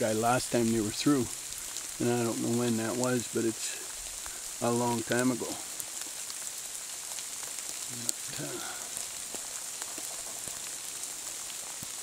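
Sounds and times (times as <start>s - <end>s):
rain on foliage: 0.0s - 12.0s.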